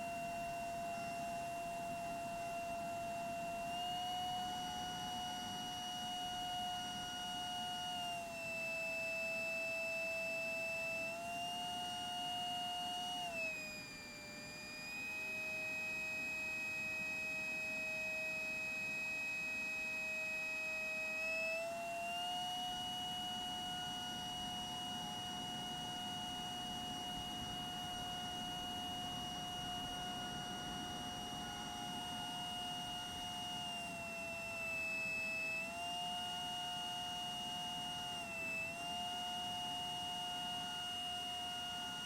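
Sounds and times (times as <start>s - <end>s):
model jet motor whining: 0.0s - 42.0s.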